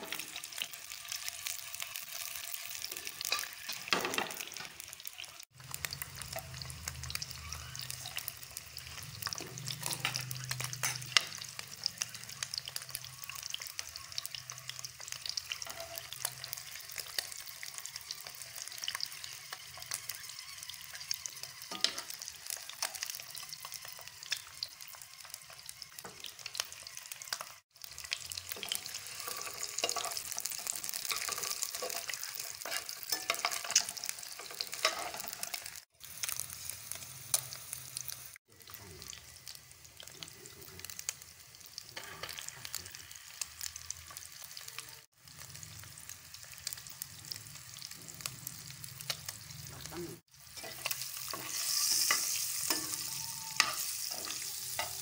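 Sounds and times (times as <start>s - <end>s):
oil sizzling and crackling: 0.0s - 55.0s.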